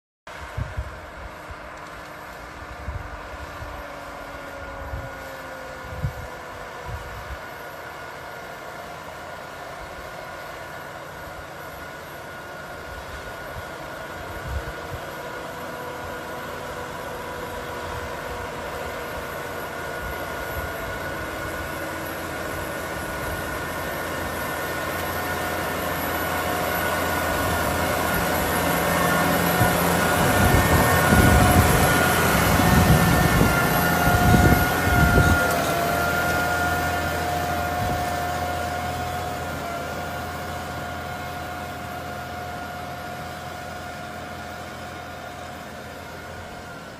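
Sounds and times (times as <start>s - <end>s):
steady whine: 0.3s - 46.9s
tractor diesel engine under load: 0.3s - 46.9s.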